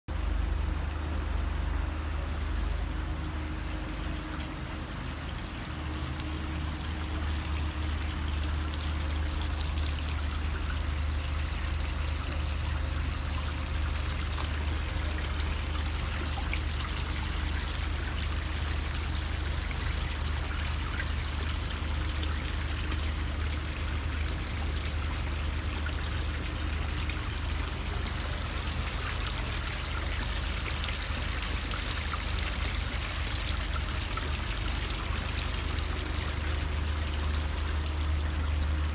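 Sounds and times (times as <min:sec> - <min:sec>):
bubbler fountain: 0:00.1 - 0:38.9
small waterfall splashing: 0:00.1 - 0:38.9.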